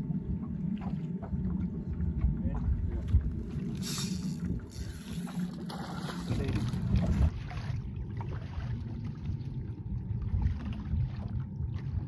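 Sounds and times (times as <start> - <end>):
water lapping and trickling: 0.0 - 12.0
wind rumbling on microphone: 0.0 - 12.0.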